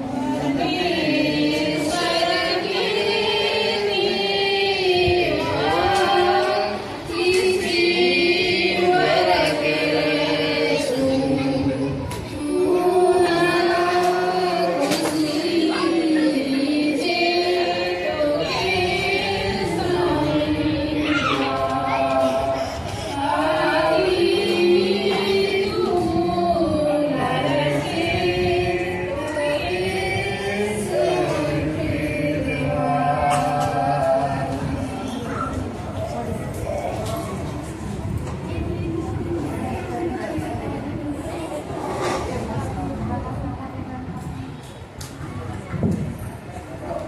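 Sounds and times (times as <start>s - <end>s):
women singing together: 0.0s - 42.6s.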